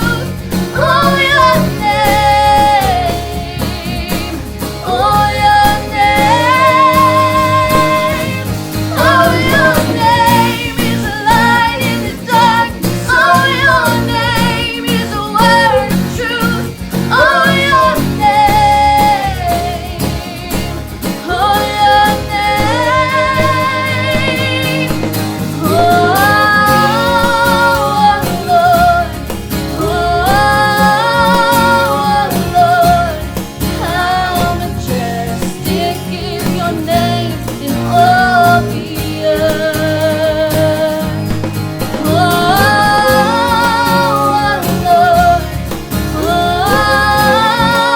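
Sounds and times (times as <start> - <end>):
guitar: 0.0 - 47.9
person singing with vibrato: 0.0 - 47.9.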